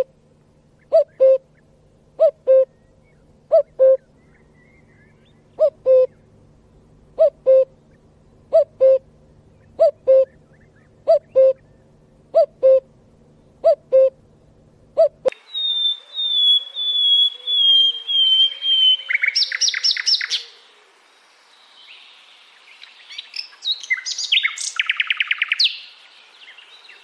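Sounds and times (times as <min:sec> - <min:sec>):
cuckoo calling: 0:00.8 - 0:06.4, 0:07.1 - 0:12.9, 0:13.6 - 0:14.2, 0:14.9 - 0:21.1, 0:22.7 - 0:27.0.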